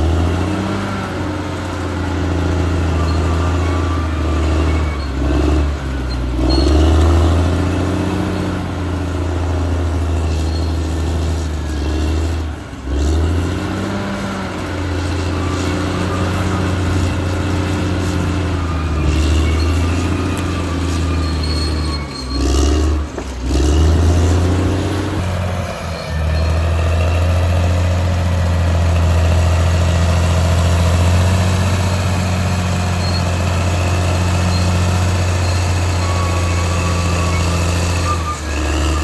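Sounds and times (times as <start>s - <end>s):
bulldozer diesel engine under load: 0.0s - 39.0s.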